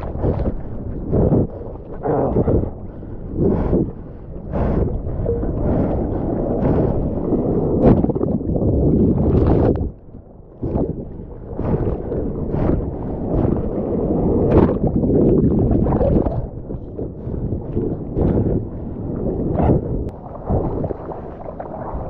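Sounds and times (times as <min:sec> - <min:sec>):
sea water splashing and rushing: 0:00.0 - 0:22.0
wind buffeting microphone: 0:00.0 - 0:22.0.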